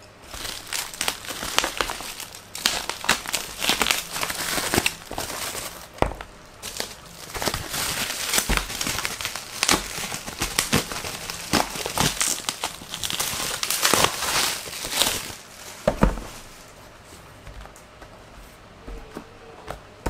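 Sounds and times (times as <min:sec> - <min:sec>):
bubble wrap crinkling: 0:00.0 - 0:17.4.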